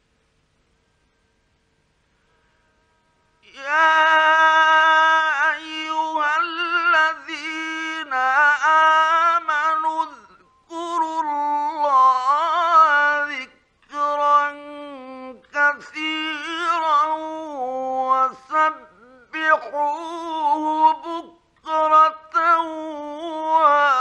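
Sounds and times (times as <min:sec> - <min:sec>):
man chanting melodically: 0:03.4 - 0:24.0.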